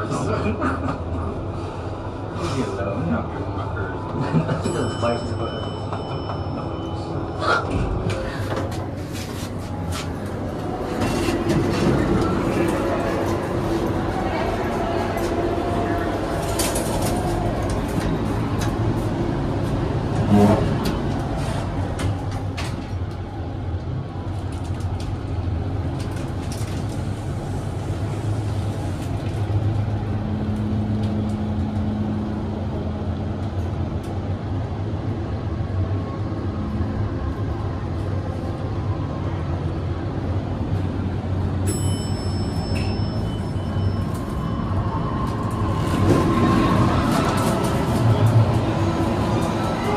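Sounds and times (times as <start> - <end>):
elevator hum: 0.0 - 49.9.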